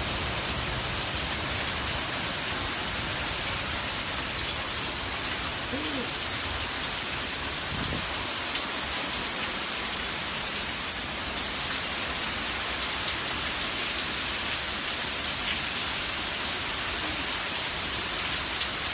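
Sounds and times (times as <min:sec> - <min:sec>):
heavy rain downpour: 0:00.0 - 0:18.9.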